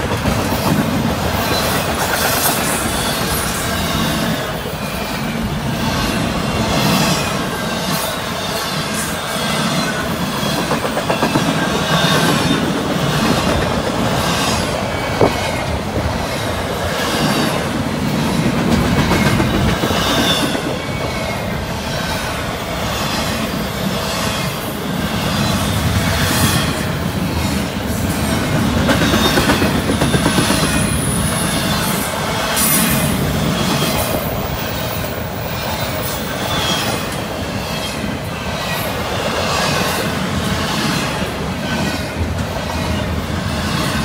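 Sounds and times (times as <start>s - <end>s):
train rumble: 0.0s - 44.0s
train wheels clattering over rails: 0.0s - 44.0s.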